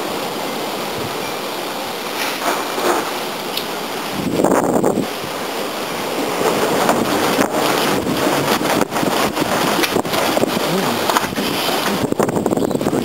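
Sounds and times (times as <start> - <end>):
gusting wind on microphone: 0.0 - 13.0.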